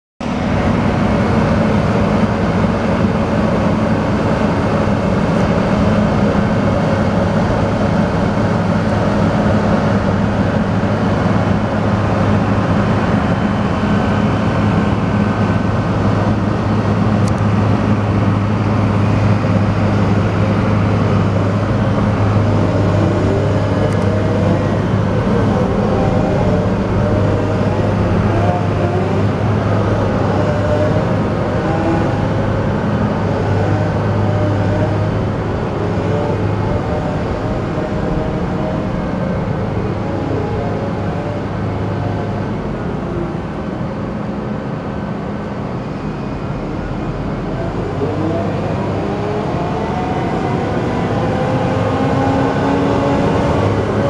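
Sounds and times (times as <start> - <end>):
material handler engine running: 0.2 - 54.0.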